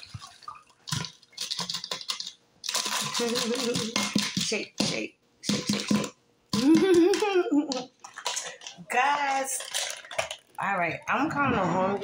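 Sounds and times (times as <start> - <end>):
ice clicking and rattling: 0.0 - 11.1.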